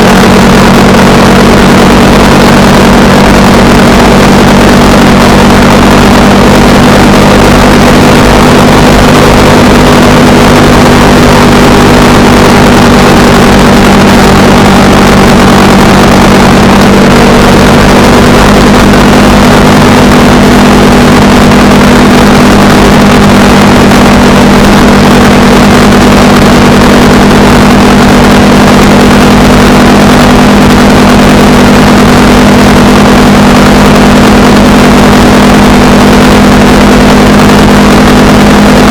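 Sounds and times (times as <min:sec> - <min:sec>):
motorcycle engine cruising: 0:00.0 - 0:38.9
rush of noise: 0:00.0 - 0:38.9.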